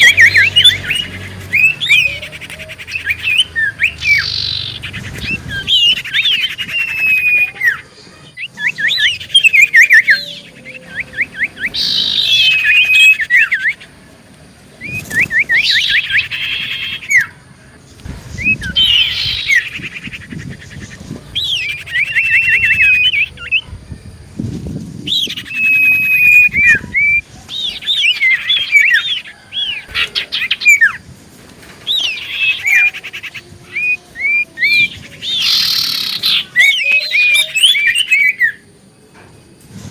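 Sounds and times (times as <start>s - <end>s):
bird singing trilled notes: 0.0s - 38.8s.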